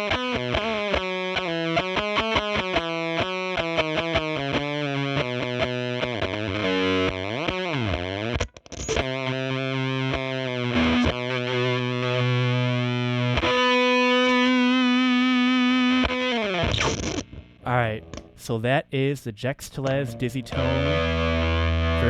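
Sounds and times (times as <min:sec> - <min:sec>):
fuzz electric guitar notes: 0:00.0 - 0:18.3, 0:20.0 - 0:22.0.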